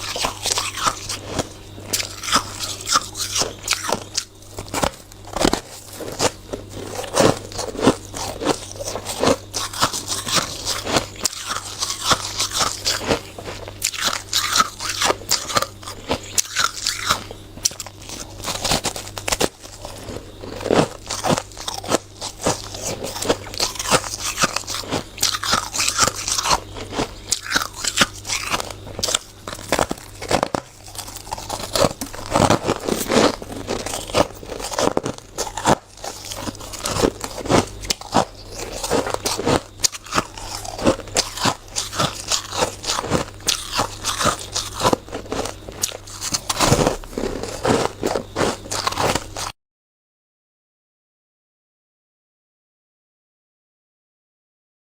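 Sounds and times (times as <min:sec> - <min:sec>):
chewing crunchy shaved ice: 0:00.0 - 0:49.6.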